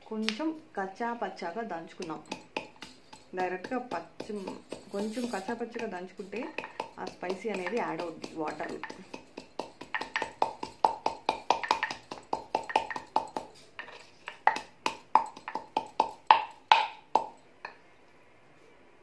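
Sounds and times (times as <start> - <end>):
wooden pestle knocking in mortar: 2.0 - 17.8.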